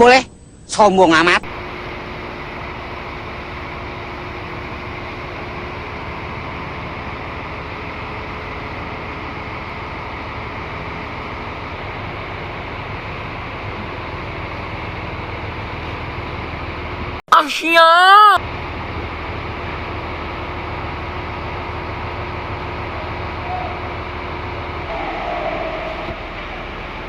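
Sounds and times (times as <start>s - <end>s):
bus diesel engine idling: 1.5s - 17.2s, 18.2s - 27.0s.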